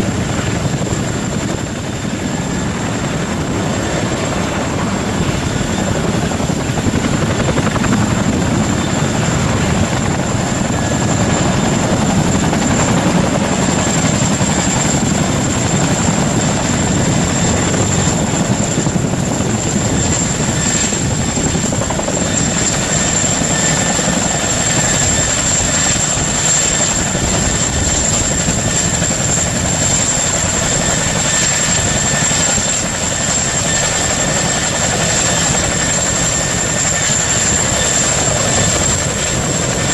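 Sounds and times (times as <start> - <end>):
helicopter rotor noise: 0.0 - 39.9.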